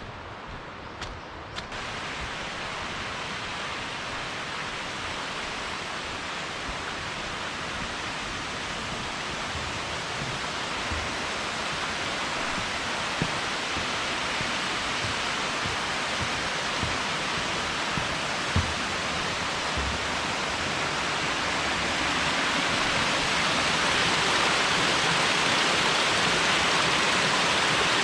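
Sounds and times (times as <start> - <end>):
stream water rushing: 1.7 - 28.0.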